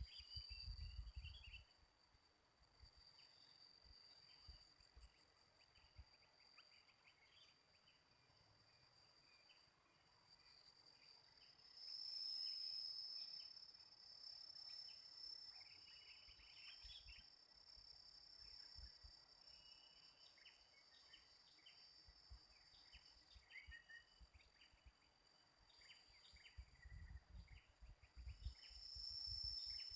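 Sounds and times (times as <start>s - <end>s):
faint bird chirps: 0.0s - 2.1s, 2.8s - 29.9s
high-pitched insect drone: 2.6s - 29.9s.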